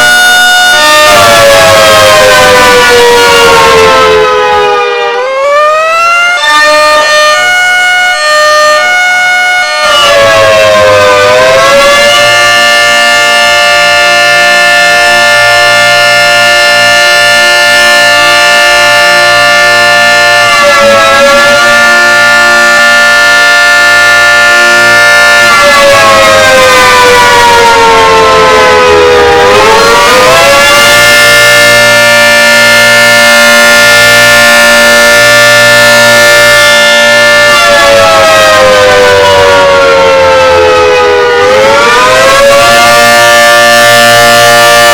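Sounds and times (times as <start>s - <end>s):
warning siren: 0.0s - 44.9s.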